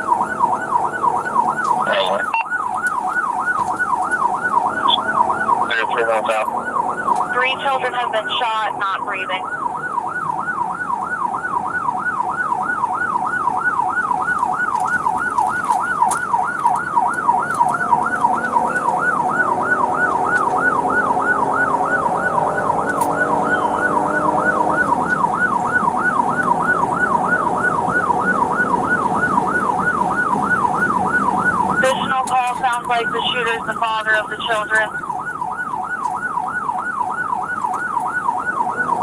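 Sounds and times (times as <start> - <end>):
lower steady tones: 0.0 - 39.0
police siren yelping: 0.0 - 39.0.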